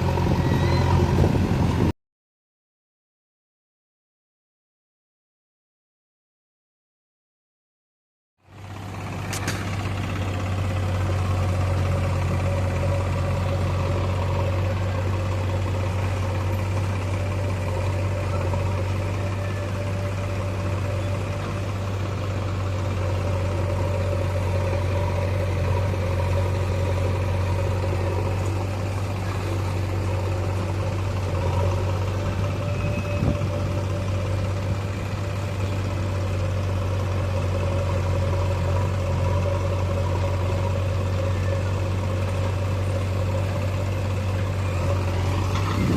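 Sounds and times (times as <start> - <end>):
backhoe engine droning: 0.0 - 1.9, 8.4 - 45.9.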